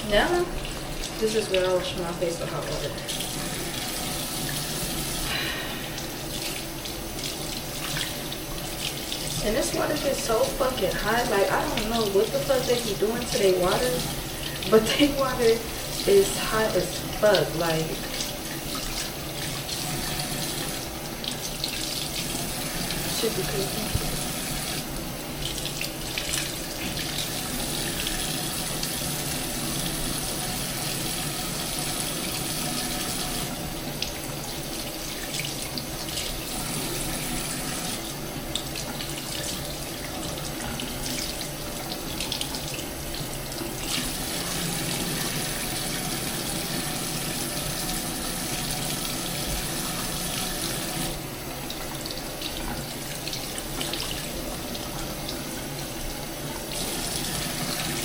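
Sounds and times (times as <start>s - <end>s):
tap water running into basin: 0.0s - 58.0s
water splashing face washing: 0.0s - 58.0s.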